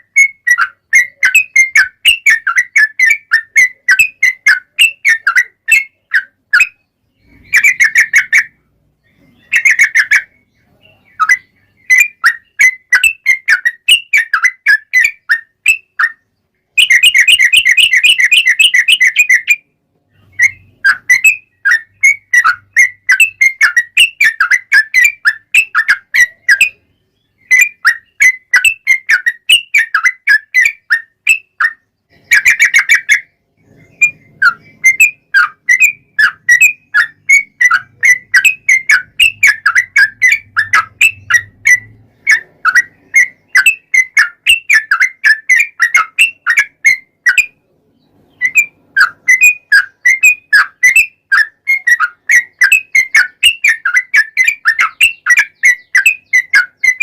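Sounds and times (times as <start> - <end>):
fast bird chattering: 0.0 - 19.6, 20.2 - 57.0
bulbul whistled song: 0.0 - 57.0.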